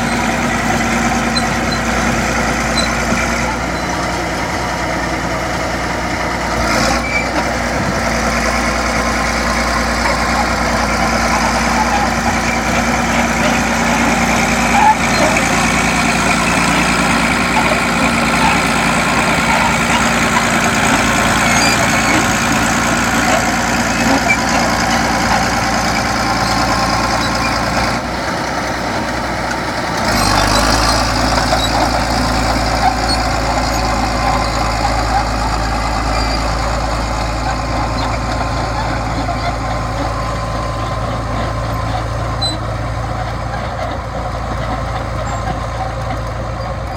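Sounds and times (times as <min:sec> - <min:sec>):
bulldozer diesel engine running: 0:00.0 - 0:46.9
blade pushing soil: 0:06.7 - 0:46.9.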